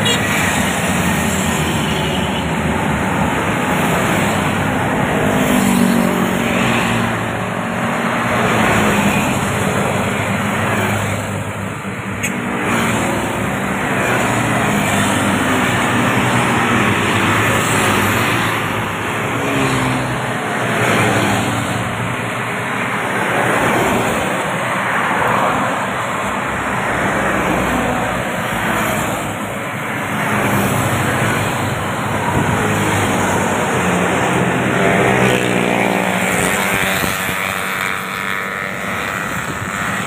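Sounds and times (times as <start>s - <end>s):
vehicles passing by: 0.0s - 40.0s.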